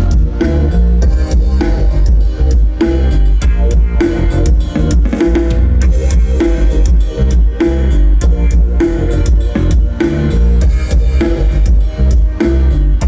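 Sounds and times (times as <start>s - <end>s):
loud music with heavy bass: 0.0s - 13.0s.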